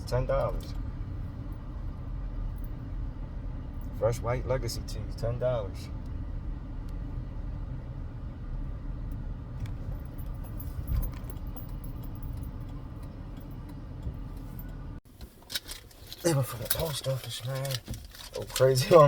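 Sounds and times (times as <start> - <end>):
car engine rumble inside car: 0.0 - 19.0
road noise: 0.0 - 19.0.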